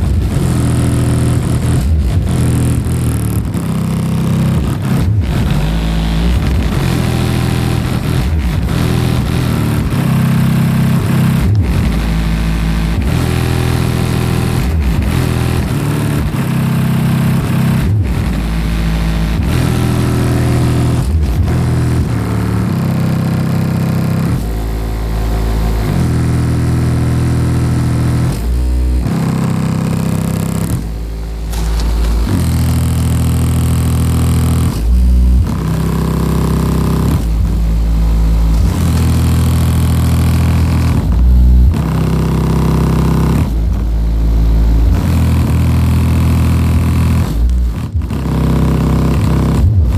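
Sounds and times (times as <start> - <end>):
distorted subwoofer bass music: 0.0 - 49.9.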